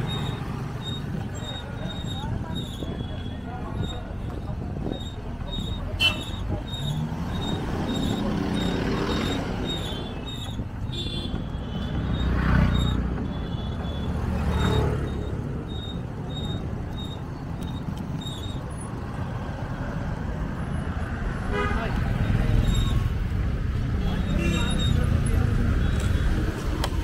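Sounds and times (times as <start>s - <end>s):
traffic rumble: 0.0s - 27.0s
vehicles passing close: 0.0s - 27.0s.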